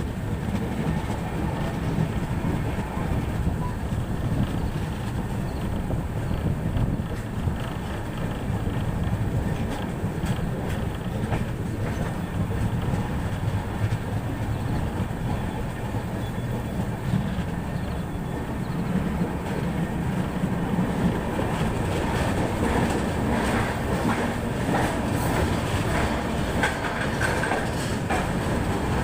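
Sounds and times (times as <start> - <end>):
train coaches rumbling: 0.0 - 29.0
wheels clacking over rail joints: 0.0 - 29.0.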